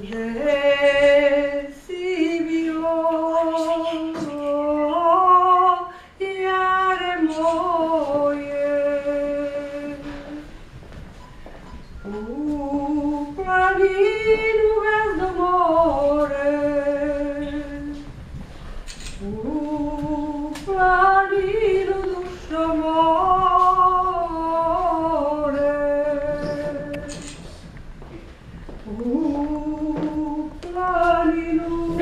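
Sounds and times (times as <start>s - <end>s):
woman singing unaccompanied: 0.0s - 10.6s, 12.0s - 18.2s, 19.0s - 27.3s, 28.8s - 32.0s.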